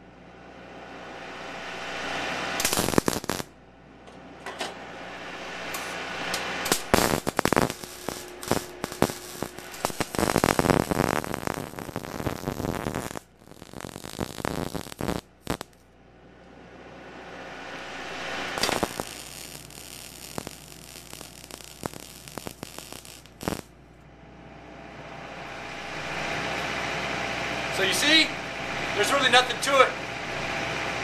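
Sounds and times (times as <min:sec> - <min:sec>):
welding arc crackling: 0:01.0 - 0:03.6, 0:04.8 - 0:15.9, 0:17.2 - 0:23.8, 0:25.5 - 0:31.0.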